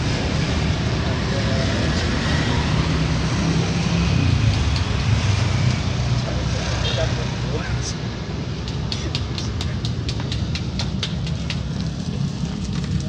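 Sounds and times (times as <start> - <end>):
engine rumble of passing vehicles: 0.0 - 13.0
road noise hiss: 0.0 - 13.0.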